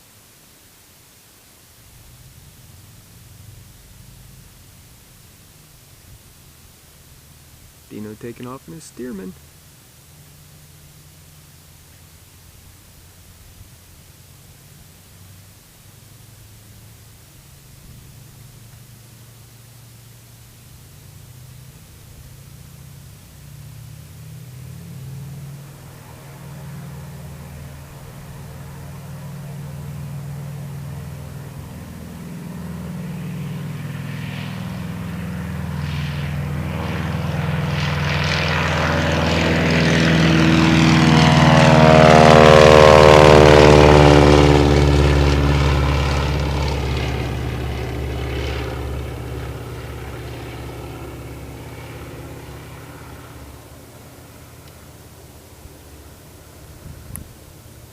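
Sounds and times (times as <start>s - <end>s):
biplane engine and propeller: 0.0s - 57.9s.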